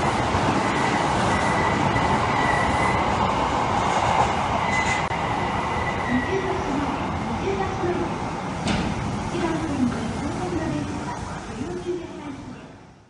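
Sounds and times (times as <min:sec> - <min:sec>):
train wheels rumbling on rail: 0:00.0 - 0:12.6.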